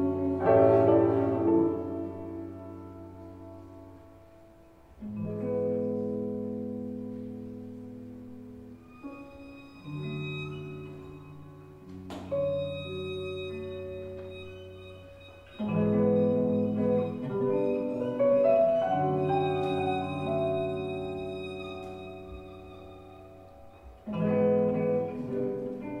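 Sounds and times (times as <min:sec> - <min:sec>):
improvised instrumental music: 0:00.0 - 0:26.0.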